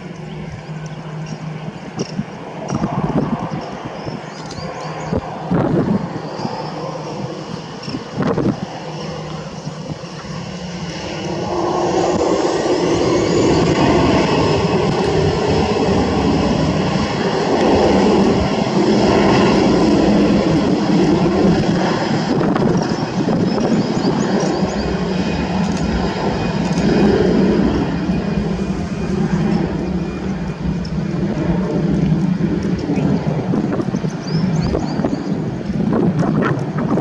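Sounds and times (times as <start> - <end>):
faint rising whine: 0.0 - 34.8
jet engines roaring: 0.0 - 37.0.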